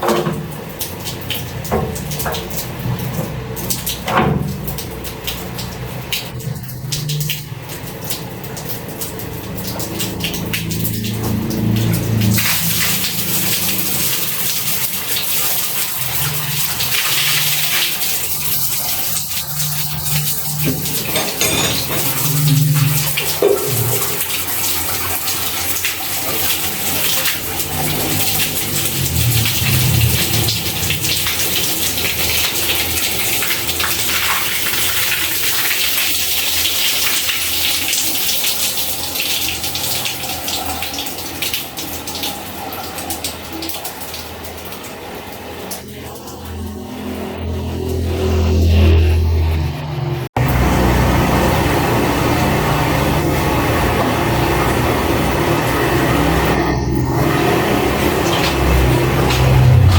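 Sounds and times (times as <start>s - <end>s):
water running from tap: 0.0s - 49.7s, 50.4s - 59.9s.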